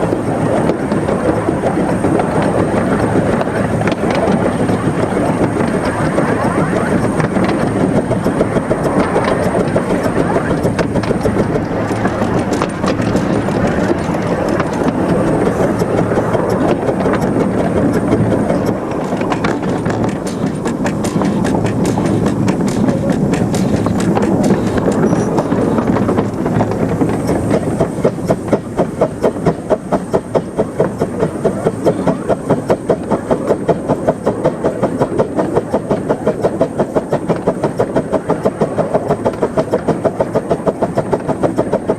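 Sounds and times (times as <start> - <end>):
steam locomotive running: 0.0 - 41.9.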